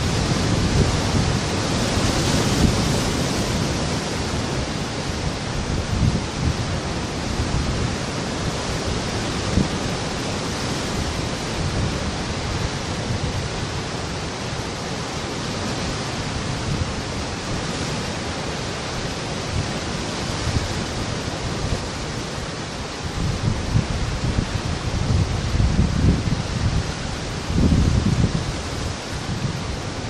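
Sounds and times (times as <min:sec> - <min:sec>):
waves breaking on rocks: 0:00.0 - 0:30.0.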